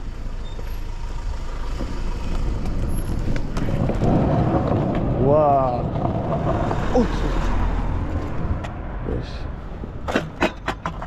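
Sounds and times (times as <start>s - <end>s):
motor vehicle rumble: 0.0s - 11.0s
road traffic noise: 0.0s - 11.0s.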